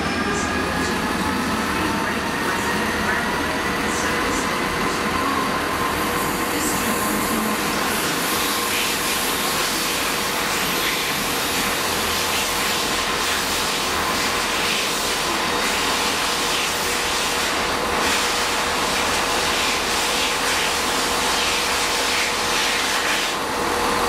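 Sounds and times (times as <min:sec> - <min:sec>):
diesel locomotive engines running: 0:00.0 - 0:24.0.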